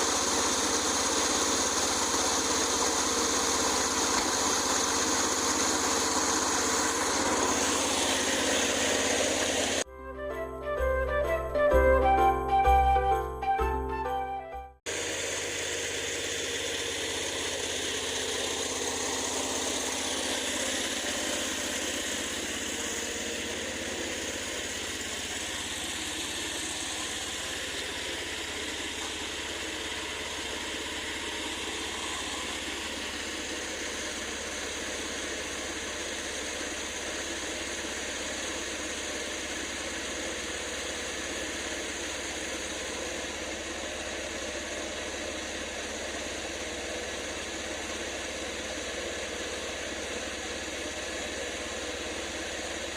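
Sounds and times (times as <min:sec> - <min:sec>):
vehicle engine idling: 0:00.0 - 0:09.9, 0:14.8 - 0:52.9.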